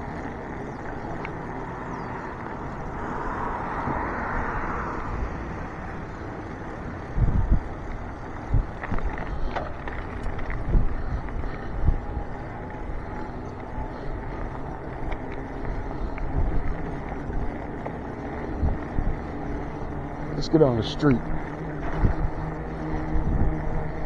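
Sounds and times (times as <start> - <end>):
rushing riding noise: 0.0 - 24.0
wind buffeting microphone: 0.0 - 24.0.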